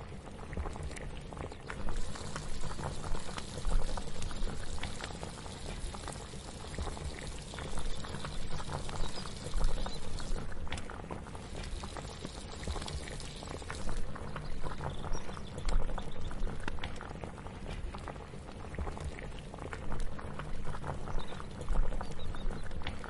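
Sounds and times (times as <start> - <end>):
liquid bubbling at a boil: 0.0 - 23.0.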